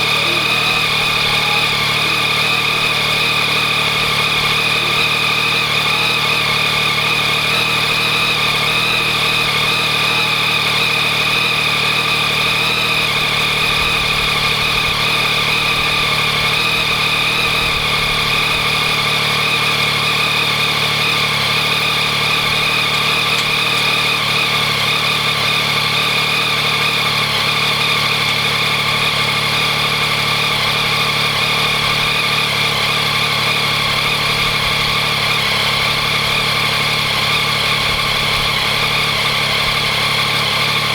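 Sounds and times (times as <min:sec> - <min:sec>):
engine rattling and ticking: 0:00.0 - 0:40.9
motorcycle engine idling: 0:00.0 - 0:40.9.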